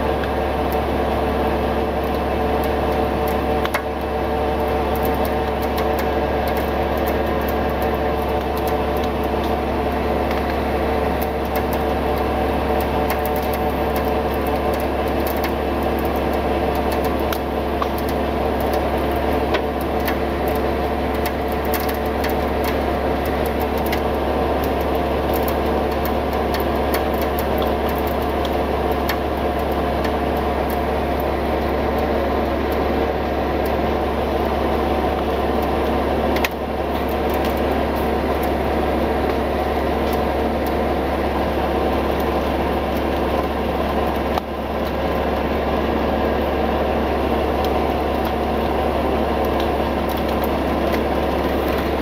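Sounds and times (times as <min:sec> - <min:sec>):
truck engine running steadily: 0:00.0 - 0:52.0.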